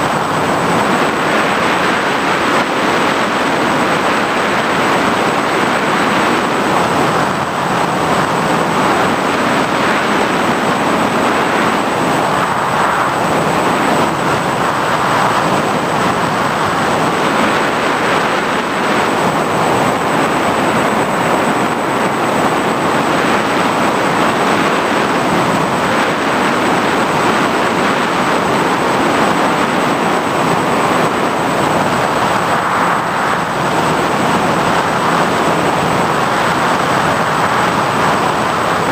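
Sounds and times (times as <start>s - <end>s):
high-pitched whine: 0.0s - 38.9s
model aircraft motor and propeller: 0.0s - 38.9s
wind rush: 0.0s - 38.9s.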